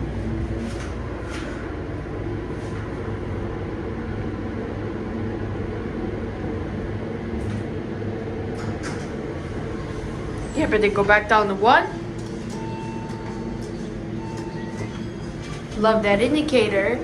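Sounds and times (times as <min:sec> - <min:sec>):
elevator hum and rumble: 0:00.0 - 0:17.0.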